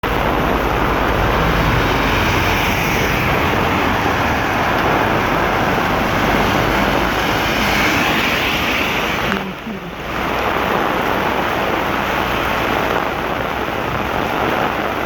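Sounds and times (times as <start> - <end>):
heavy rain rushing: 0.0 - 15.0
low engine rumble: 0.0 - 15.0.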